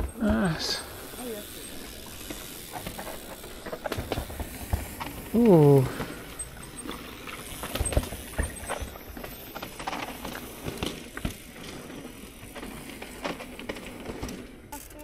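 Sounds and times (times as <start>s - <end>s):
bike parts rattling: 0.0s - 15.0s
bike tyres on dirt: 0.0s - 15.0s.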